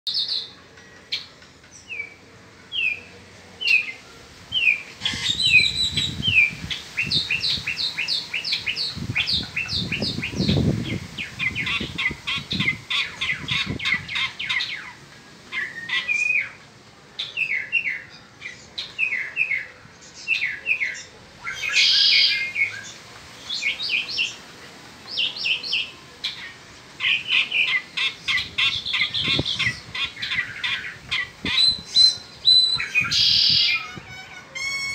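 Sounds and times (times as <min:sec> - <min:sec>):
mockingbird singing: 0:00.1 - 0:16.6, 0:17.2 - 0:24.4, 0:25.1 - 0:34.9.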